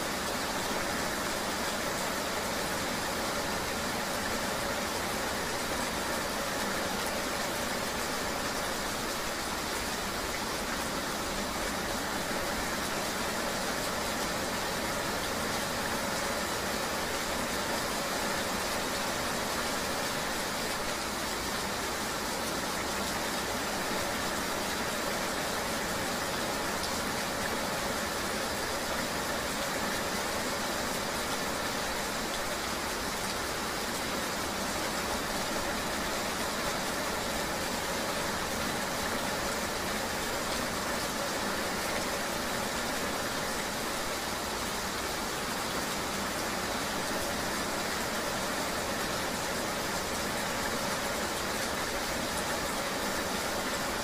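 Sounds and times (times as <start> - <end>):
rain: 0.0 - 54.0.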